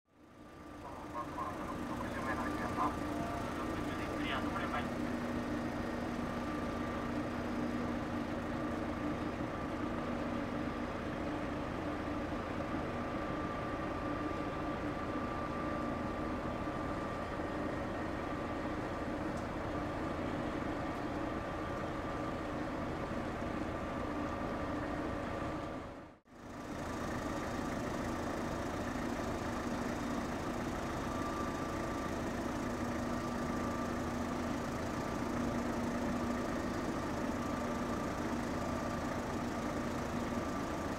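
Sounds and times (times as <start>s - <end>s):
ship engines humming: 0.1s - 40.9s.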